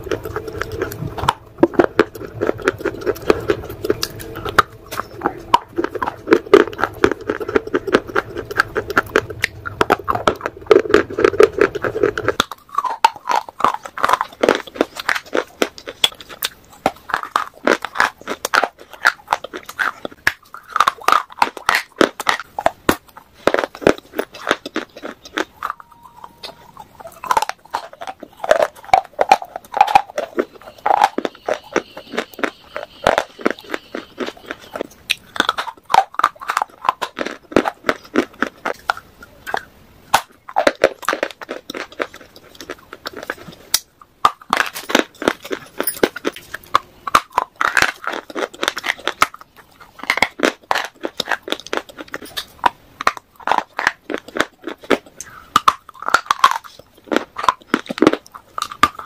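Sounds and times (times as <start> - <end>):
crunching bites and chewing: 0.0 - 59.0
low background hum: 0.0 - 59.0.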